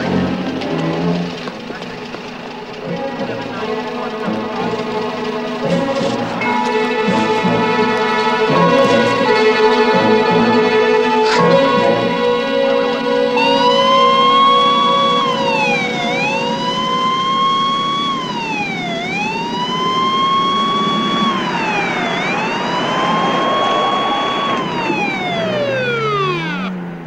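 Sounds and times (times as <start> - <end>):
ambulance siren wailing: 0.0 - 27.0.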